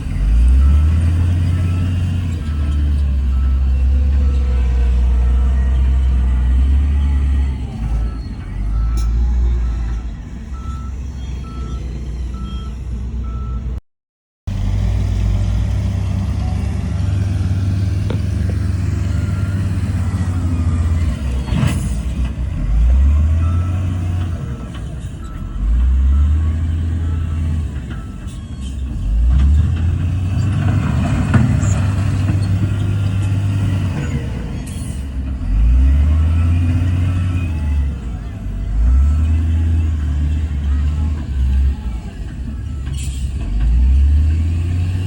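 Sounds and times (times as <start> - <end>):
heavy diesel engine revving: 0.0 - 13.6, 14.5 - 45.0.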